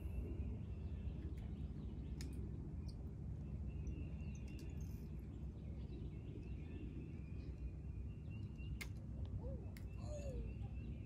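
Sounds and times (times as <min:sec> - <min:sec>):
faint bird chirps: 0:00.0 - 0:11.0
low steady rumble: 0:00.0 - 0:11.0.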